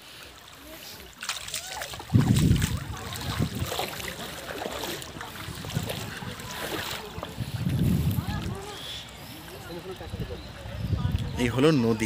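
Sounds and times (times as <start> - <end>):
wind gusting on microphone: 1.9 - 11.6.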